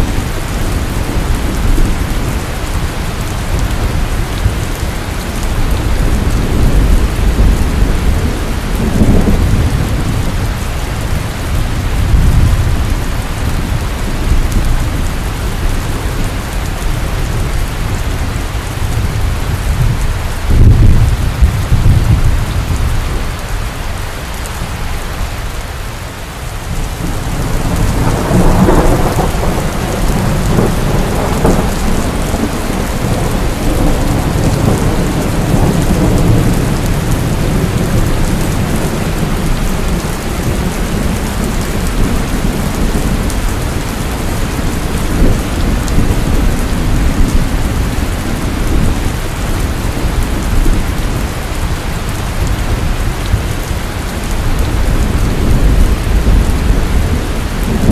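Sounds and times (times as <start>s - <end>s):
thunder rumbling: 0.0s - 24.8s, 26.6s - 57.9s
heavy rain pouring: 0.0s - 57.9s.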